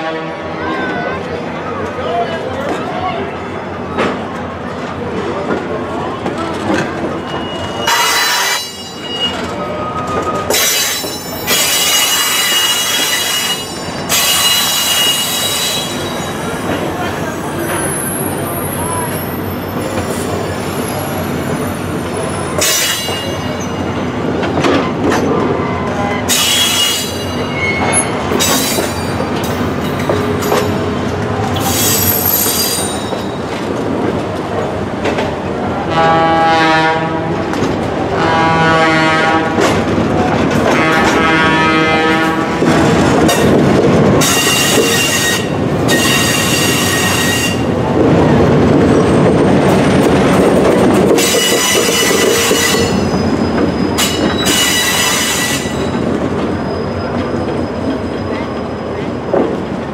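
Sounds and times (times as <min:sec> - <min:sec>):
train cars rolling past: 0:00.7 - 0:59.9
wheels squealing on rails: 0:05.9 - 0:34.6, 0:39.6 - 0:59.9.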